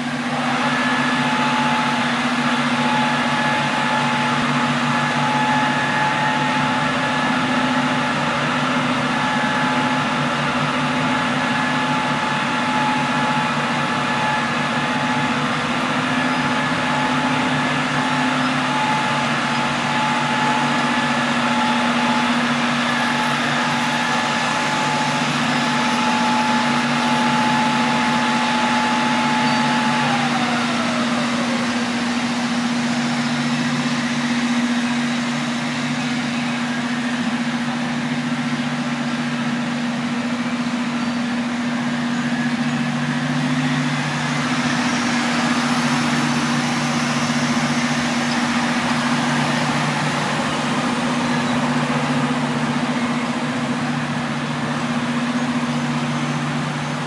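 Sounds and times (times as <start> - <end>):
furnace whir and air rush: 0.0 - 57.0.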